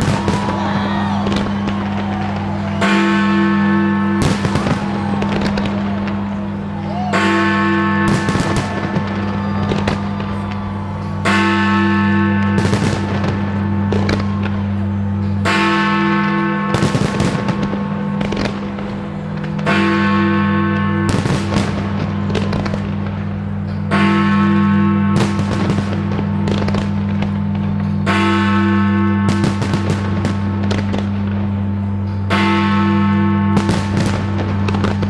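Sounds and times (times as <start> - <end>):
fireworks banging and crackling: 0.0 - 35.0
deep bell strokes: 2.8 - 35.0.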